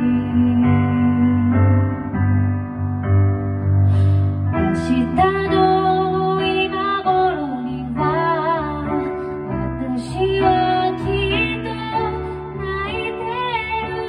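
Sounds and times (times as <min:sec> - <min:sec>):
woman singing a slow ballad: 0:00.0 - 0:02.4, 0:03.9 - 0:14.0
digital piano accompaniment: 0:00.0 - 0:14.0.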